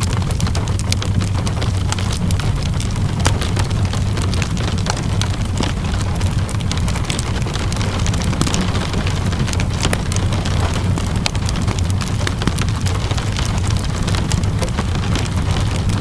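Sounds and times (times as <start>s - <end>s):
fireplace crackling: 0.0s - 16.0s
low rumble: 0.0s - 16.0s
steady rain hiss: 0.0s - 16.0s.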